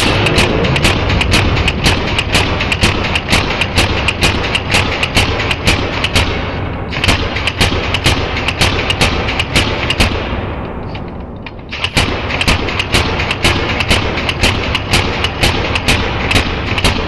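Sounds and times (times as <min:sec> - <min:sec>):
paintball marker firing rapidly: 0:00.0 - 0:10.4, 0:11.7 - 0:17.0.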